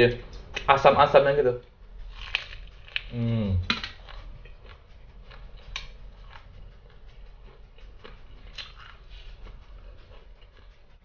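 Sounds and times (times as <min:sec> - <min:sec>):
chewing crispy food: 0:02.0 - 0:11.0.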